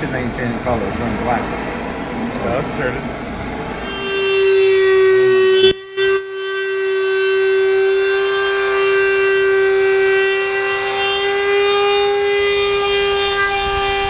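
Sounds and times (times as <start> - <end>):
power tool cutting sheet metal: 0.0 - 14.0.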